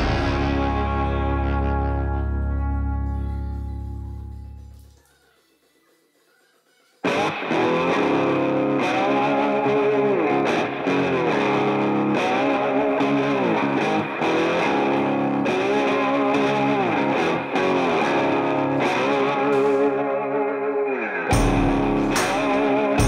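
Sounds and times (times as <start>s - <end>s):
distorted electric guitar music: 0.0s - 6.2s, 7.0s - 23.0s.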